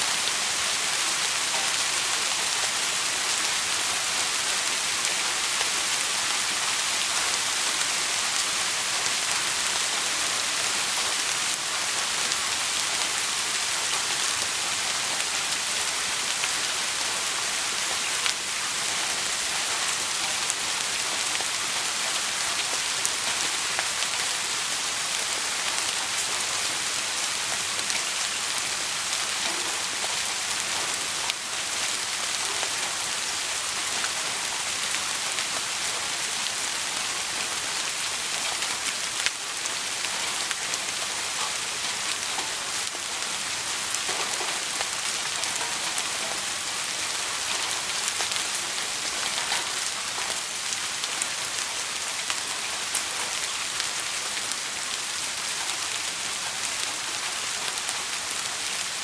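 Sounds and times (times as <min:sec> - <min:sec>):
dense rain hiss: 0:00.0 - 0:59.0.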